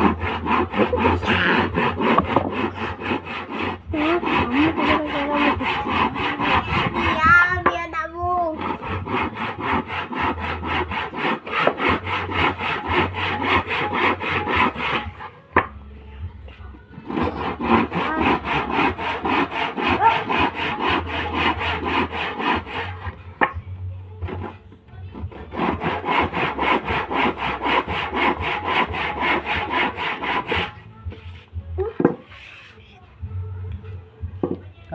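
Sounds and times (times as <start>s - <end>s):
hand saw cutting wood: 0.0s - 15.8s, 16.9s - 23.6s, 24.2s - 32.8s.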